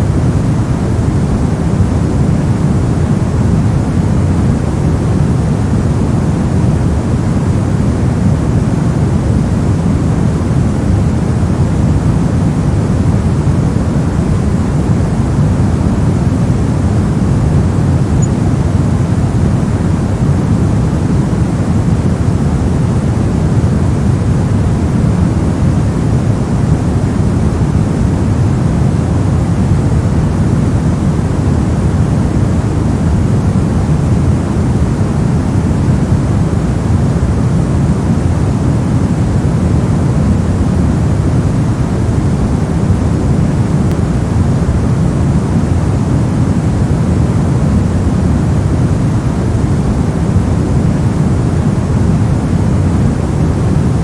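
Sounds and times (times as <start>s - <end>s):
white noise: 0.0s - 54.0s.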